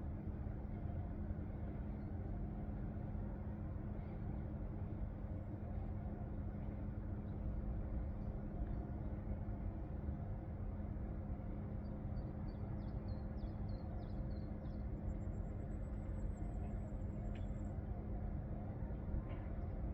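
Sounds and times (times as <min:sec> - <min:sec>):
constant hum: 0:00.0 - 0:19.9.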